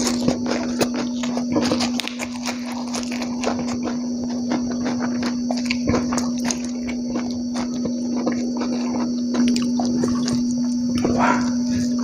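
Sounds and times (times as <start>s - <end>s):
chewing mouth sounds: 0.0s - 12.0s
steady hum: 0.0s - 12.0s.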